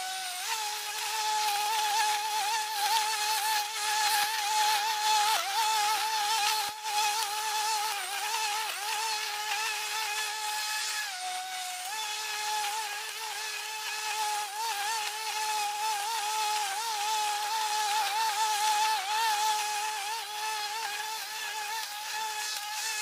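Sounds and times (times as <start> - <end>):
lawn mower whining: 0.0 - 23.0.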